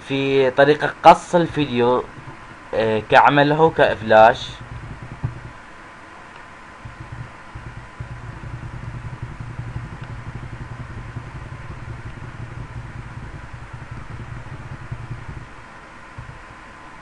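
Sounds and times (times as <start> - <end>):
pulsing mechanical hum: 0.0 - 17.0.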